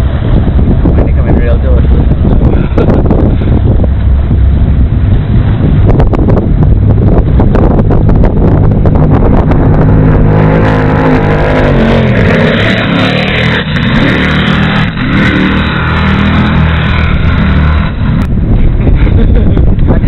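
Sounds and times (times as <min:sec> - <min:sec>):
boat engines roaring past: 0:00.0 - 0:20.0.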